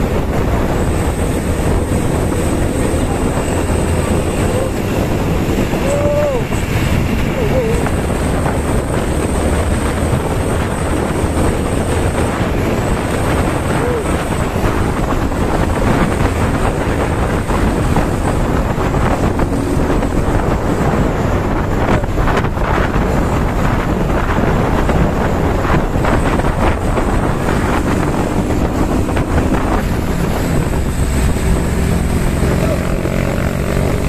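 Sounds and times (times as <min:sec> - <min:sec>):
vehicles driving at speed: 0:00.0 - 0:34.0
wind buffeting microphone: 0:00.0 - 0:34.0.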